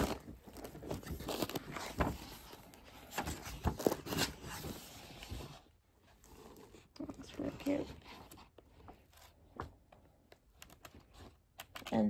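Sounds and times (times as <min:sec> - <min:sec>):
book pages turning: 0:00.0 - 0:12.0.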